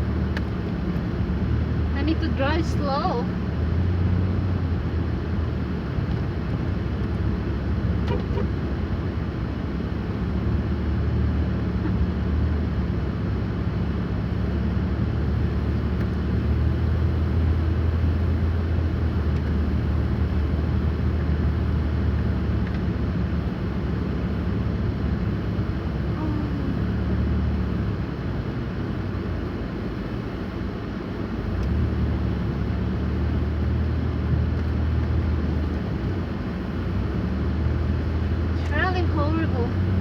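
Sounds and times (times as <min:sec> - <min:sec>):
car engine and tyres hum: 0:00.0 - 0:40.0.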